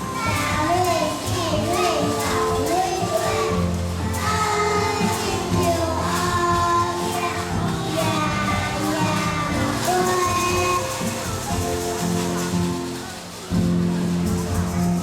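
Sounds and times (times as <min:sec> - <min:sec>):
children singing: 0:00.0 - 0:15.0
instrumental accompaniment: 0:00.0 - 0:15.0.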